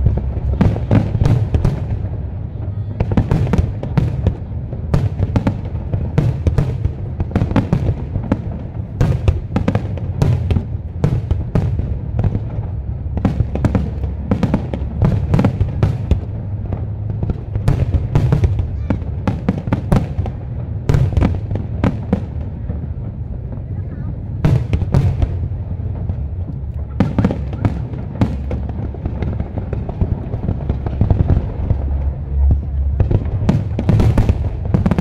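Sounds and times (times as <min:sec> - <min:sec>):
continuous low rumble: 0:00.0 - 0:35.0
fireworks bursting with sharp bangs: 0:00.0 - 0:35.0.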